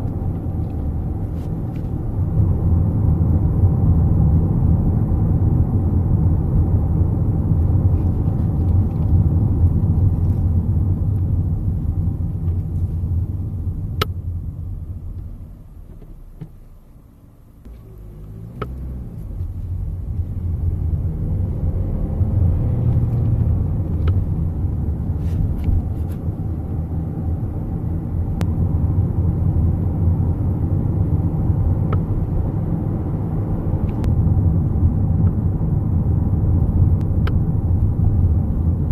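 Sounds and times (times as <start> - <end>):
car cabin road rumble: 0.0 - 38.9.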